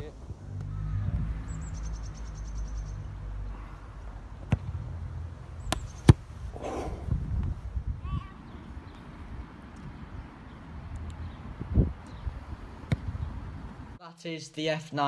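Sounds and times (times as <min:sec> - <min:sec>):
low wind rumble on microphone: 0:00.0 - 0:14.0.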